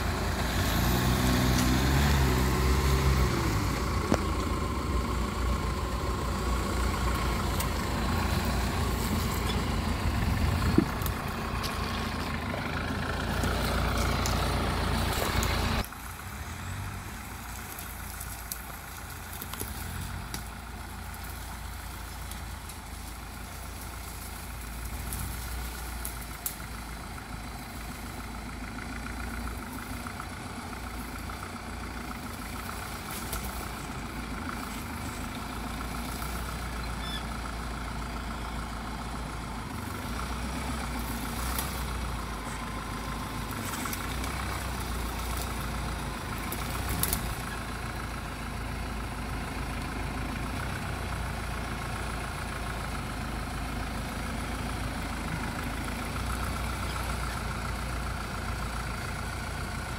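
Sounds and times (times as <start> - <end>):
off-road vehicle engines running: 0.0 - 59.9.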